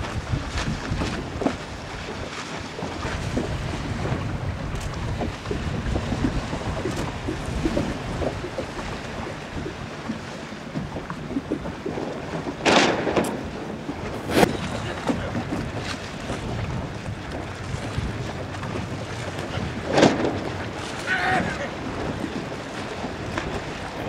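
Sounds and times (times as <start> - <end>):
choppy water: 0.0 - 24.0
wind on microphone: 0.0 - 24.0.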